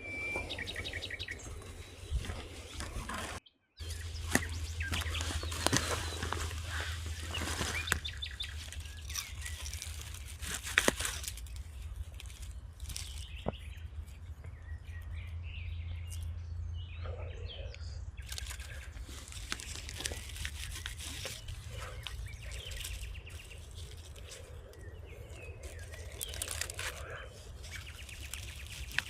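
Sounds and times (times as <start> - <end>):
leaves and twigs rustling: 0.0 - 16.4, 18.2 - 29.0
small birds chirping: 0.0 - 29.0
steady low rumble: 0.0 - 29.0.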